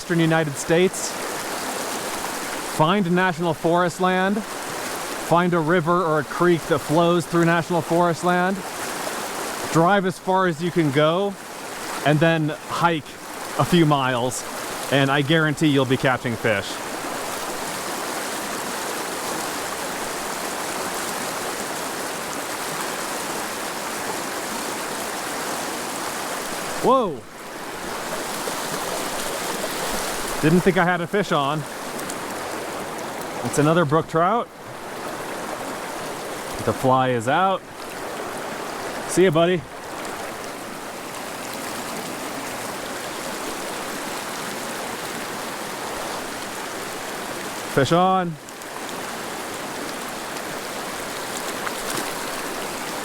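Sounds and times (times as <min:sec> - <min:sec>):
river running over rocks: 0:00.0 - 0:53.0.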